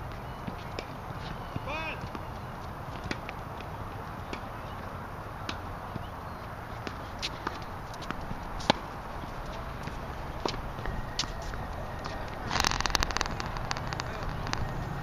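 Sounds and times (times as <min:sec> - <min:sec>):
tennis balls bouncing on court: 0:00.0 - 0:15.0
rackets striking tennis balls: 0:00.1 - 0:15.0.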